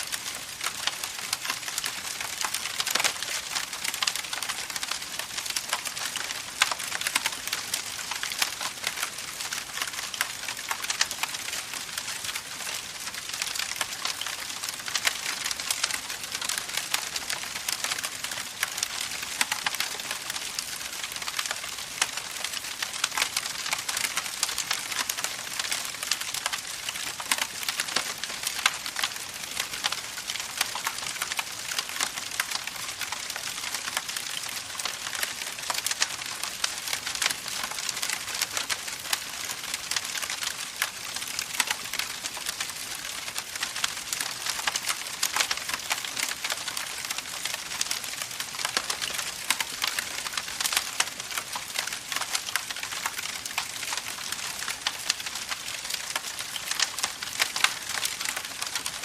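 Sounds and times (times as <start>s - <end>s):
constant hiss: 0.0s - 59.0s
campfire crackling: 0.1s - 59.0s.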